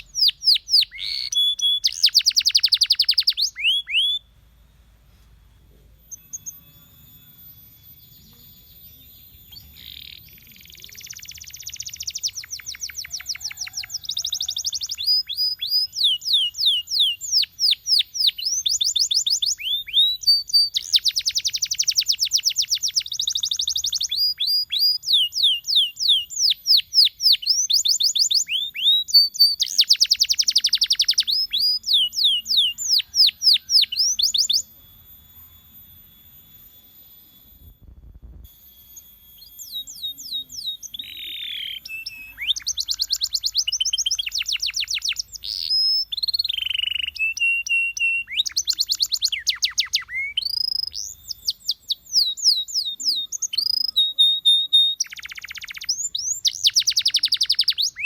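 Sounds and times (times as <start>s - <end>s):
canary singing: 0.0s - 4.8s, 5.6s - 58.0s.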